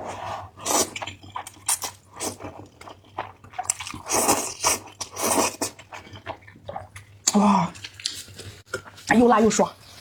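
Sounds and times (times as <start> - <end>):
noodles slurped and chewed: 0.0 - 10.0.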